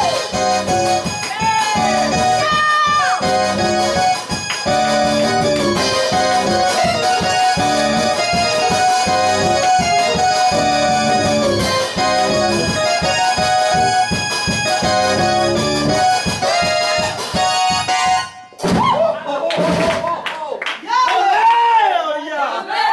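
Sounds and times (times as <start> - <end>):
electronic keyboard chords: 0.0 - 18.6.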